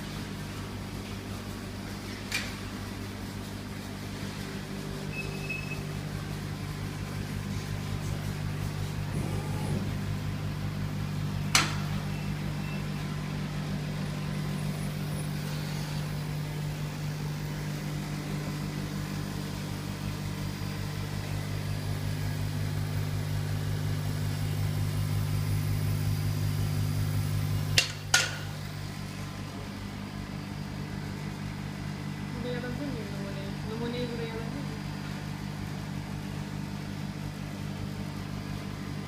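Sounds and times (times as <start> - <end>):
low hum of fans and pumps: 0.0 - 39.0.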